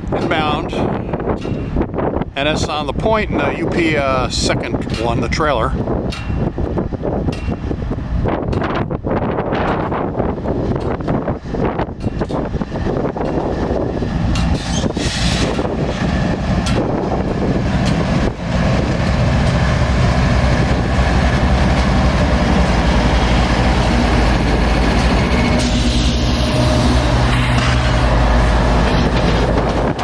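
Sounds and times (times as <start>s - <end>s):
diesel locomotive engine drone: 0.0s - 30.0s.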